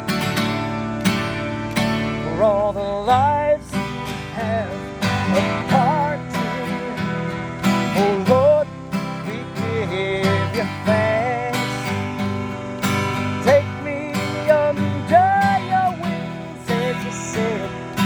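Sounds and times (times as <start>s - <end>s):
country song: 0.0s - 18.0s
strummed acoustic guitar: 0.0s - 18.0s.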